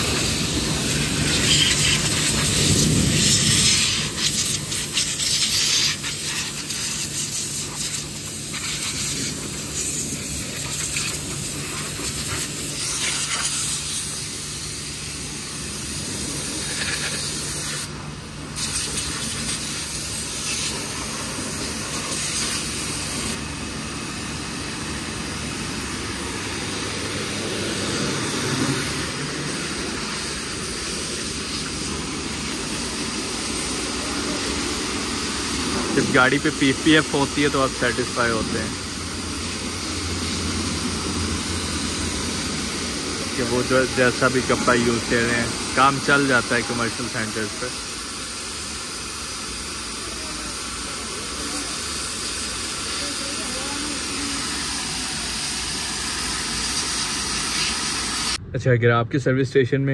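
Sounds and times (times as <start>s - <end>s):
high-pressure hose jet hissing: 0.0s - 58.4s.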